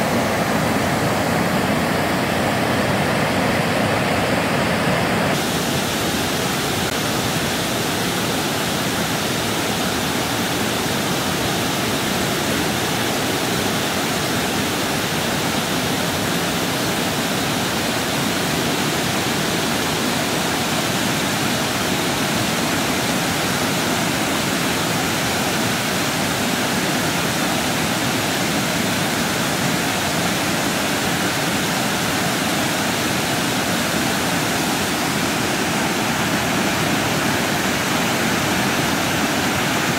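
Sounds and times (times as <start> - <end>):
river water rushing over weir: 0.0 - 39.9.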